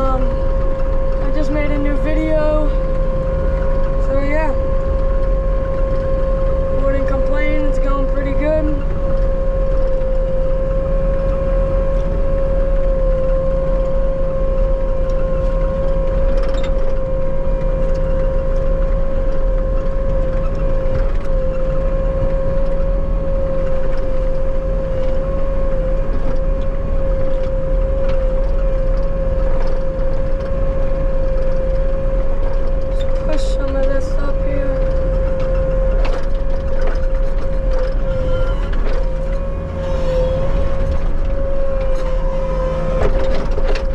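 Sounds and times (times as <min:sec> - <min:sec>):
high machine whine: 0:00.0 - 0:43.9
skid steer diesel rumble: 0:00.0 - 0:43.9.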